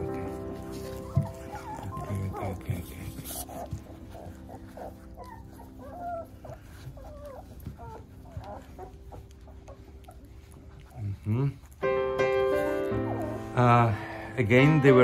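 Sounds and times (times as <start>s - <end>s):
puppies whimpering: 0.0s - 15.0s.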